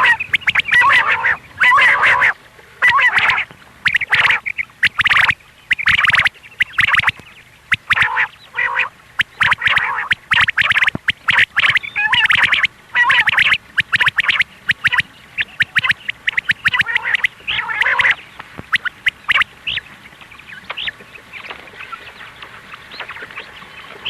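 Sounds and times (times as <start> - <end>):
quail calling: 0.0 - 23.6.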